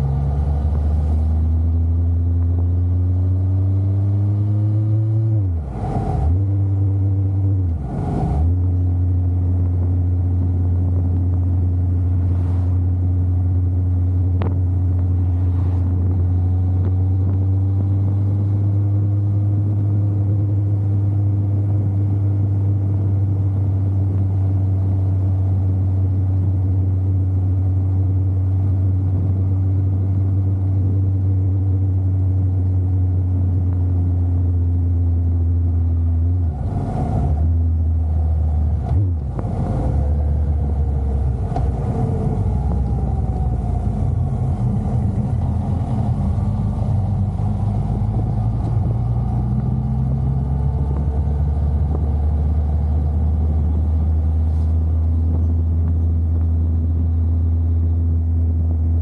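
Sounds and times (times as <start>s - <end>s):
motorcycle engine cruising: 8.5s - 36.4s, 37.3s - 59.0s.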